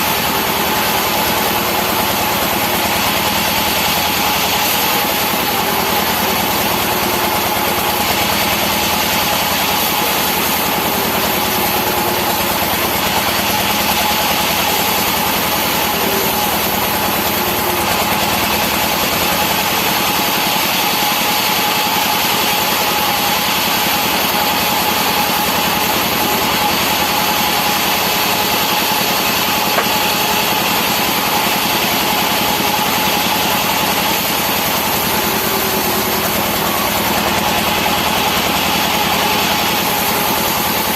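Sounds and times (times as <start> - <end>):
chainsaw cutting logs: 0.0 - 40.9
steady whine: 0.0 - 40.9.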